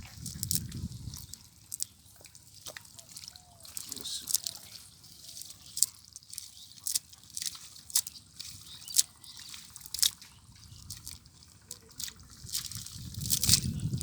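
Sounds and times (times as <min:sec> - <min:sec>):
water dripping: 0:00.0 - 0:14.0.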